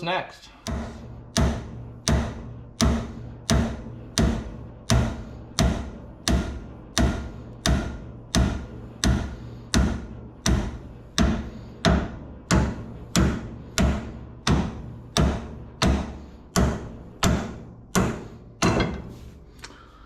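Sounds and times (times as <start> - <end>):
hammer striking metal: 0.6 - 19.3.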